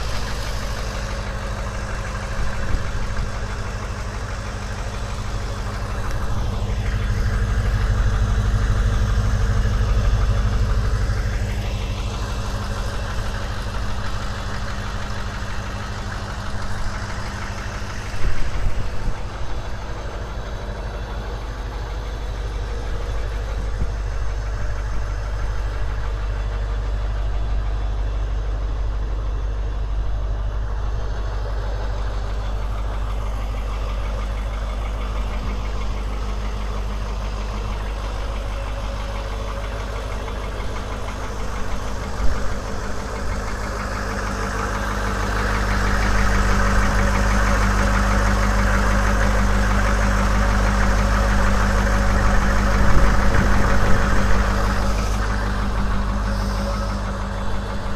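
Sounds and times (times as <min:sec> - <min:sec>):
diesel engine idling: 0:00.0 - 0:57.9.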